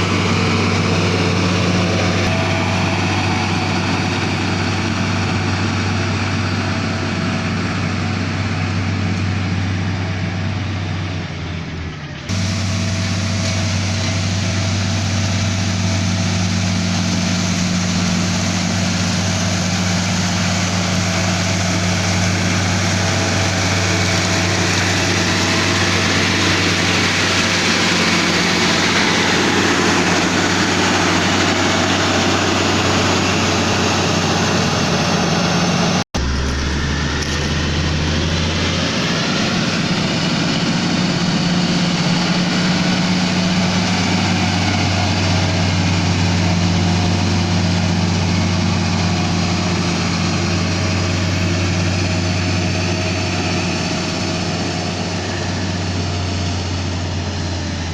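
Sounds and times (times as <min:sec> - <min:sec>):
broad rushing noise: 0:00.0 - 0:57.9
diesel engine running: 0:00.0 - 0:57.9.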